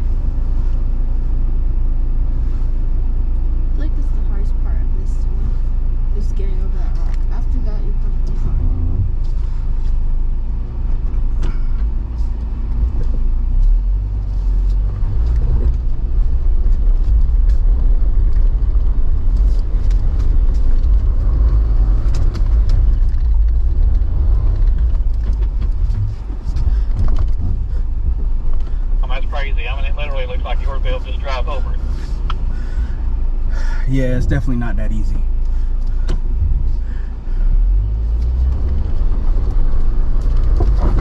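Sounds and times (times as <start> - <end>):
off-road engine rumbling: 0.0 - 41.0.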